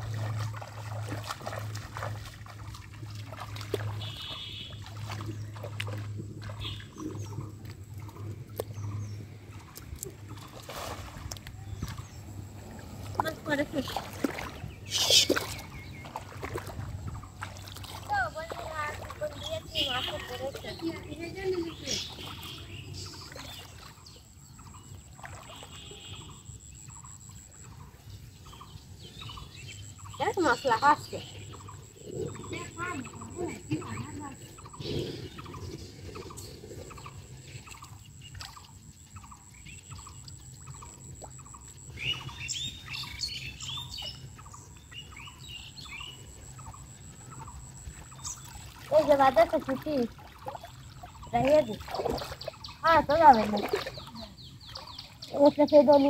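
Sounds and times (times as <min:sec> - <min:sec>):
legs wading through water: 0:00.0 - 0:56.0.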